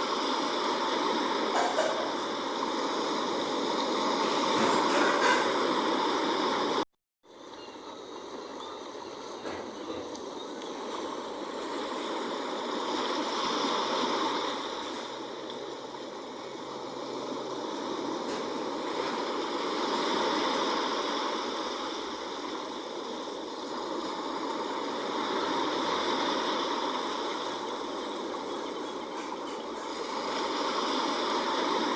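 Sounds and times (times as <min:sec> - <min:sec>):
sea waves washing onto shore: 0:00.0 - 0:31.9.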